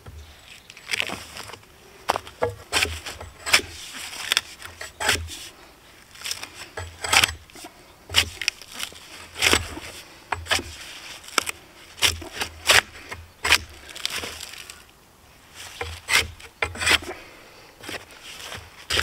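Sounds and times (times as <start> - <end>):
tool scraping bark off log: 2.2 - 5.5, 6.2 - 14.8, 15.5 - 19.0.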